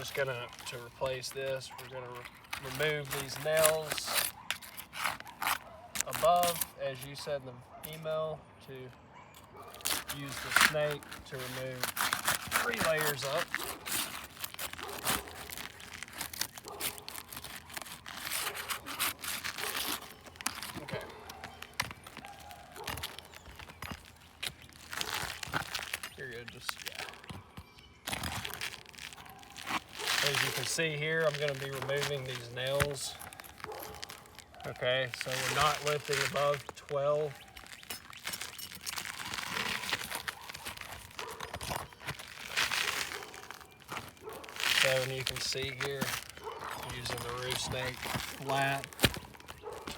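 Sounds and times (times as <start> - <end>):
roof shingles scraping: 0.0 - 8.2, 9.6 - 49.9.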